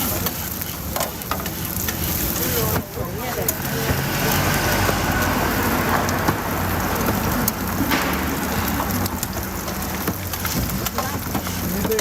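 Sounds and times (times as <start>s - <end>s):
food sizzling on griddle: 0.0s - 12.0s.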